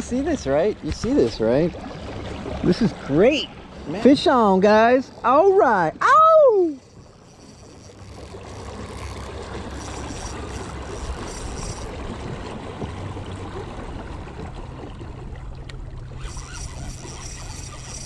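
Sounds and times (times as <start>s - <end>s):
water rushing and splashing: 0.0s - 18.0s.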